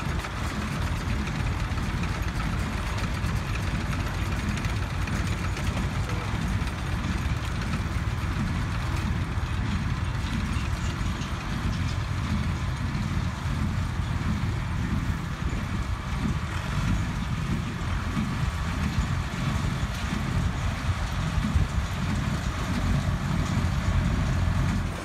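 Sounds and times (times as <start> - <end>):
tractor engine rumbling: 0.0 - 25.0.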